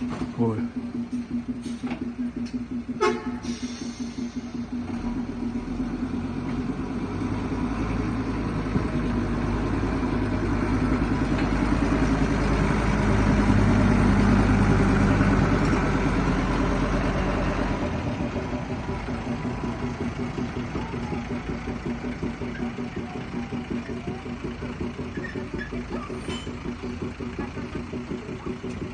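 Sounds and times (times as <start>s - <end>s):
deep low hum: 0.0s - 28.9s
diesel locomotive engine drone: 0.0s - 28.9s.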